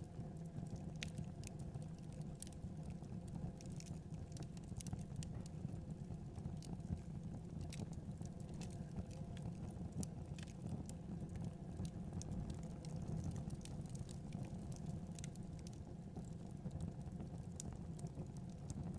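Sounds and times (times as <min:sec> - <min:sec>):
wood fire crackling and popping: 0:00.1 - 0:18.9.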